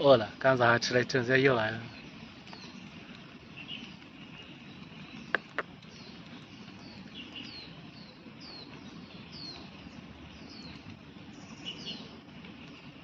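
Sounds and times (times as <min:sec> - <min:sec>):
bird chirping: 0:00.8 - 0:12.9.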